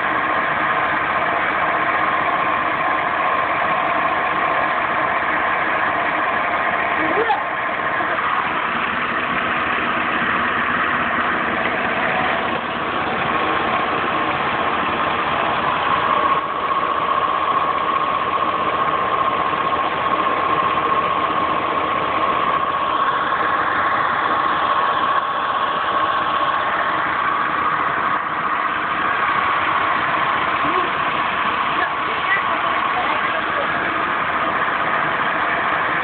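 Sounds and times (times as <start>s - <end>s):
engine idling with whine: 0.0s - 36.0s.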